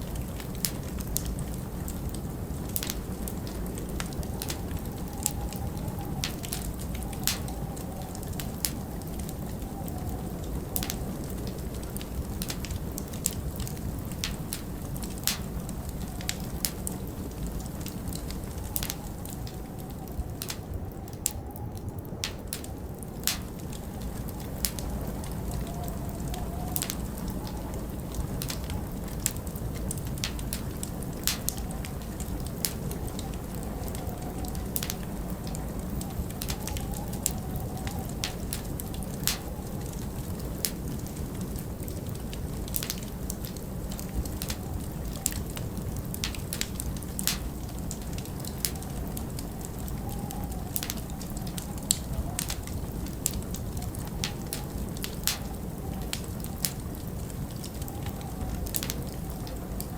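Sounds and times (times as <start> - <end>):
low wind rumble: 0.0 - 59.9
wind howling: 0.0 - 59.9
wood fire crackling and popping: 0.0 - 59.9.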